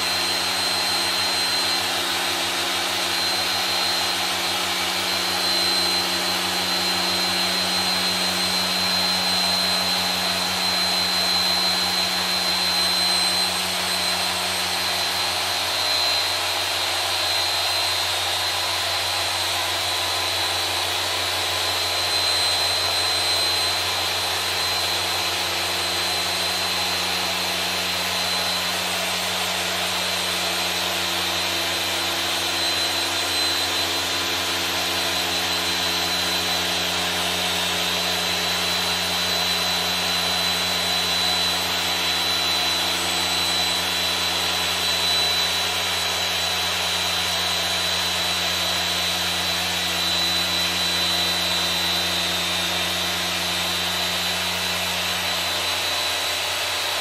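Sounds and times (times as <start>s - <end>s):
polisher motor whining: 0.0s - 57.0s.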